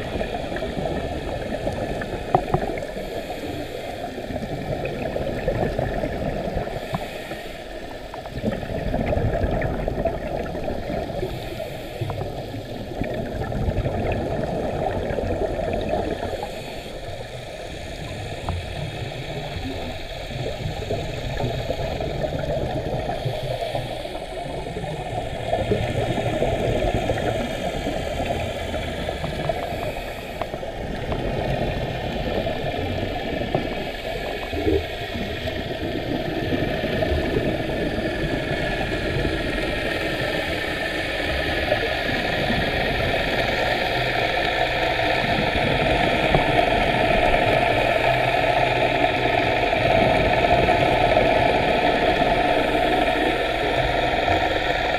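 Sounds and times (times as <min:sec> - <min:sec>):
underwater engine drone: 0:00.0 - 0:54.9.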